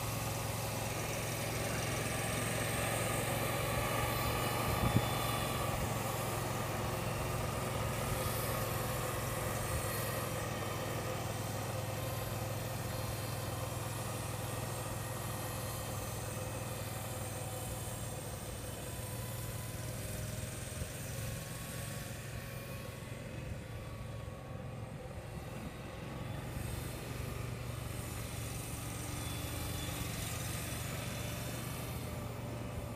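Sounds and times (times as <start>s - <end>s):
utility vehicle engine running: 0.0s - 32.9s.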